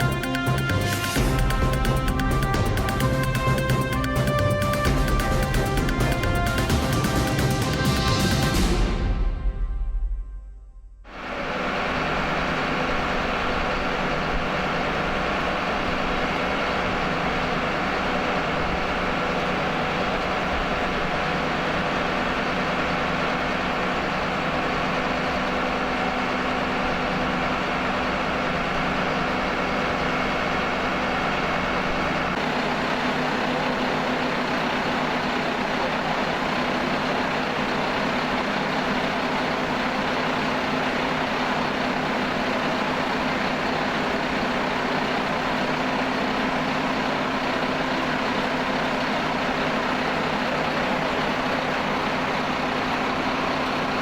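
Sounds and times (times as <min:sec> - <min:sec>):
engine humming steadily: 0:00.0 - 0:10.1, 0:11.0 - 0:54.0.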